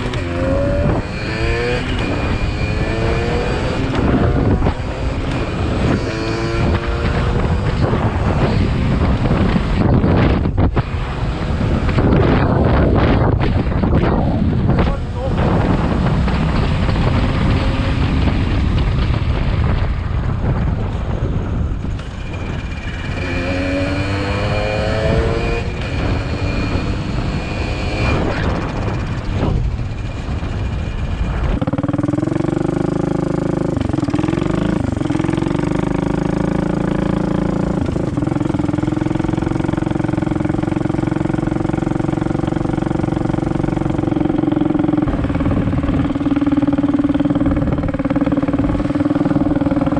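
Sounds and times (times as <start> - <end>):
small motorbike engine revving: 0.0 - 14.0, 21.9 - 49.9
wind on microphone: 0.0 - 49.9.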